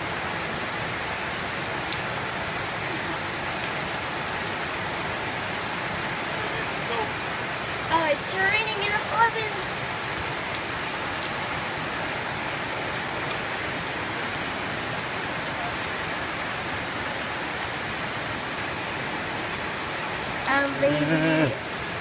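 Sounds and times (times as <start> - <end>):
heavy rain on concrete: 0.0 - 22.0.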